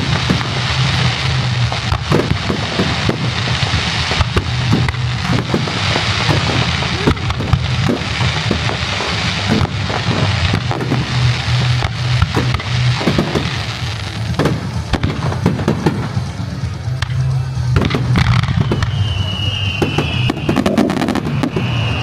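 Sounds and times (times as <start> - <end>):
fireworks bangs and crackles: 0.0 - 22.0
low rumble: 0.0 - 22.0.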